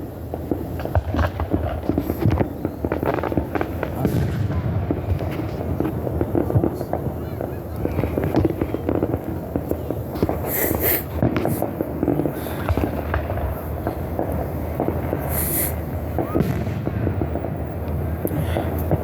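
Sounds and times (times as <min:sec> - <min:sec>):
fireworks crackling and banging: 0:00.0 - 0:19.0
fireworks hissing: 0:00.0 - 0:19.0.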